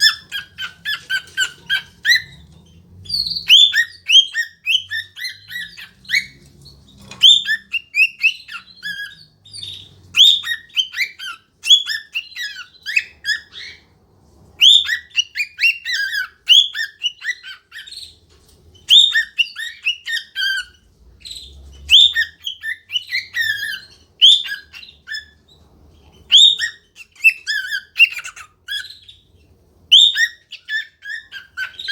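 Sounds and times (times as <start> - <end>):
cockatiel whistling and chattering: 0.0 - 13.9, 14.6 - 18.2, 18.8 - 29.2, 29.9 - 31.9.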